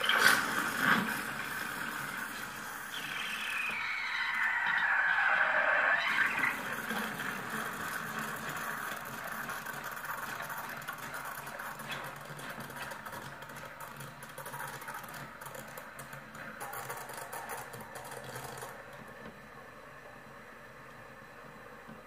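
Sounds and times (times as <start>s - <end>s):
steam wand frothing milk: 0.0s - 22.0s.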